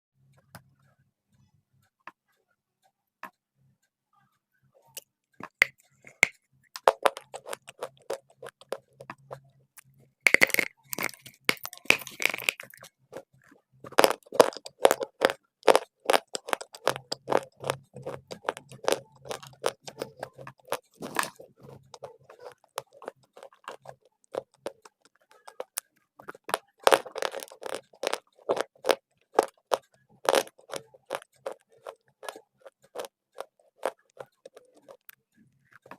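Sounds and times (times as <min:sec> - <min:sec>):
clay being bitten and chewed: 0:04.9 - 0:35.9.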